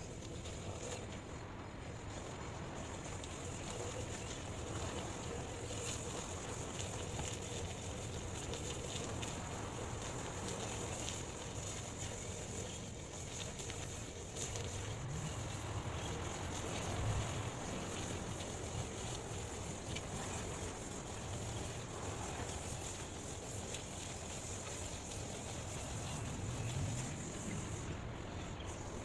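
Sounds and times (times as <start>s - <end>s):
steady high hiss: 0.0s - 29.0s
wind buffeting microphone: 0.0s - 29.0s.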